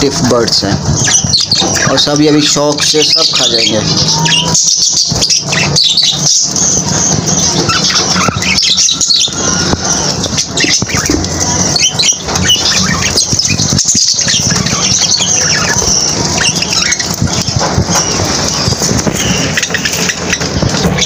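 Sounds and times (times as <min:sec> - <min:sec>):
budgerigars chirping and squawking: 0:00.0 - 0:21.0
wings flapping: 0:00.1 - 0:21.0.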